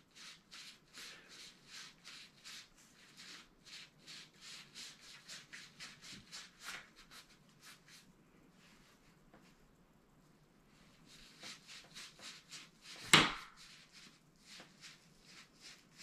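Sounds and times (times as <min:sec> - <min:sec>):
wet rag scrubbing a grip: 0:00.0 - 0:09.7, 0:10.7 - 0:16.0.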